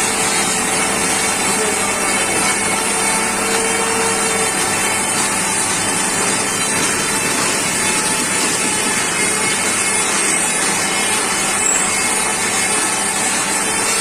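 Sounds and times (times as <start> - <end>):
lathe cutting: 0.0 - 14.0.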